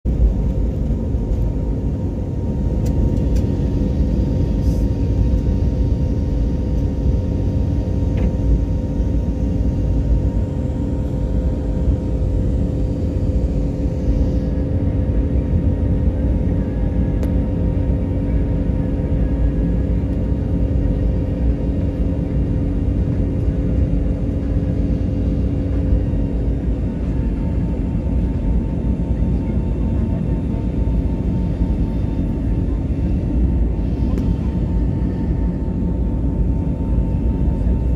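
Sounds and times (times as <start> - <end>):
jet engines during takeoff: 0.1 - 37.9.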